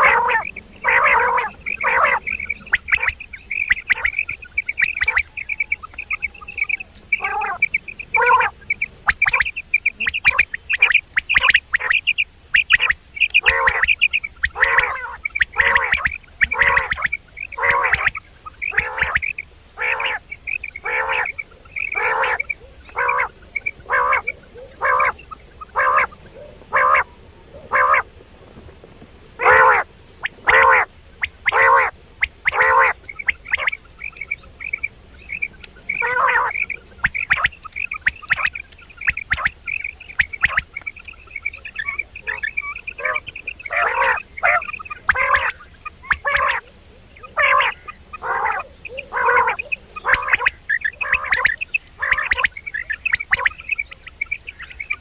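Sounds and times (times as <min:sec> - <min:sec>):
soft bird twittering: 0:00.0 - 0:28.0, 0:29.6 - 0:55.0
quail calling harshly: 0:00.0 - 0:28.1, 0:29.4 - 0:55.0.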